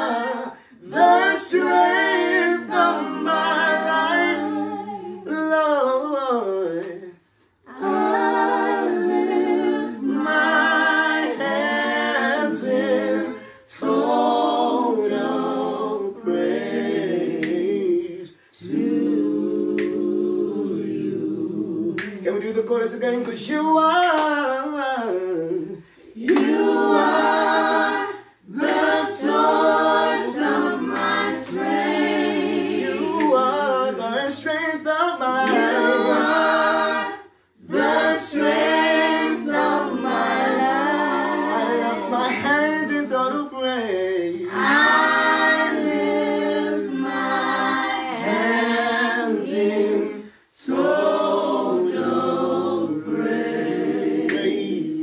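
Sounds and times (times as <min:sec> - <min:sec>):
person singing a gospel song: 0:00.0 - 0:55.0.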